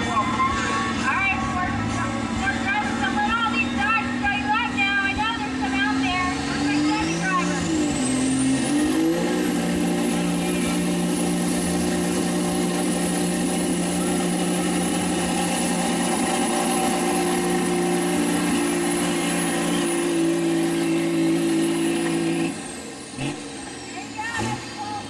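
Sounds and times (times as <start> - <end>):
diesel engine drone: 0.0 - 25.0.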